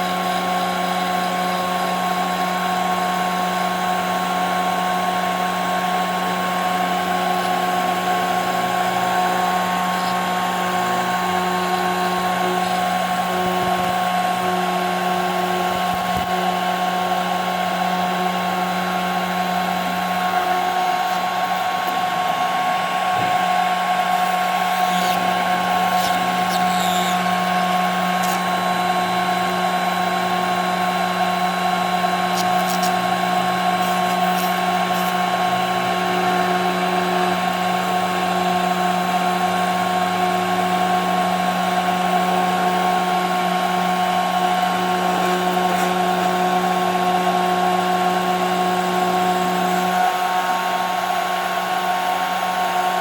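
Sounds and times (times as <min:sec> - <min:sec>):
bit milling plastic sheet: 0:00.0 - 0:50.0
router spindle whining: 0:00.0 - 0:53.0.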